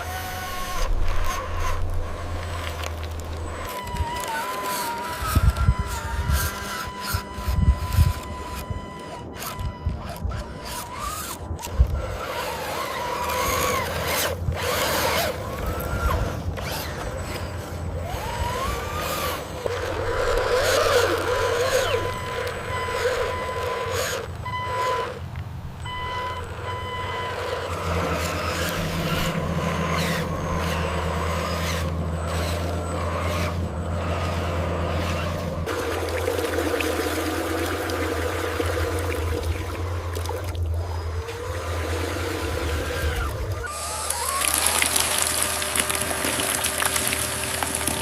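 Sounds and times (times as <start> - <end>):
steady low hum: 0.0 - 44.3
toy truck motors whining: 0.0 - 48.0.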